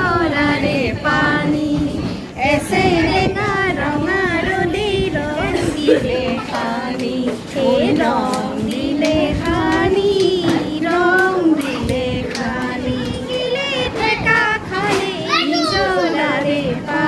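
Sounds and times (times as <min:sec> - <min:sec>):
women singing: 0:00.0 - 0:17.0.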